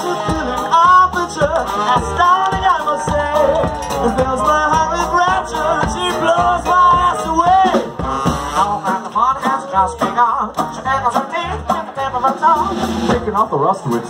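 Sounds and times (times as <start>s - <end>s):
hot jazz band playing: 0.0s - 14.0s.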